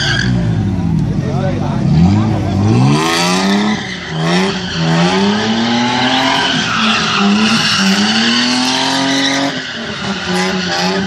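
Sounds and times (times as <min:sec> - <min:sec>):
car engine revving: 0:00.0 - 0:11.0
tyres screeching: 0:02.0 - 0:11.0.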